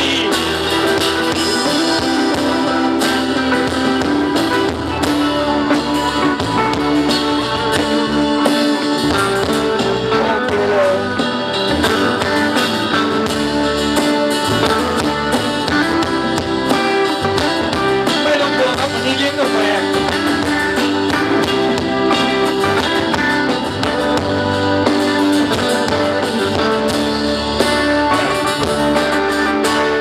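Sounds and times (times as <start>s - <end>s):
drums: 0.0s - 30.0s
electric guitar: 0.0s - 30.0s.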